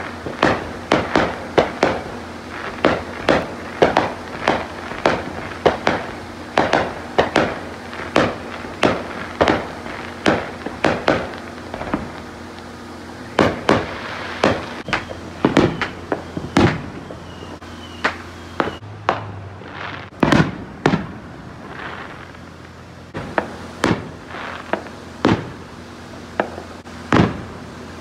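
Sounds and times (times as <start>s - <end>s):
fireworks bangs and pops: 0.0s - 28.0s.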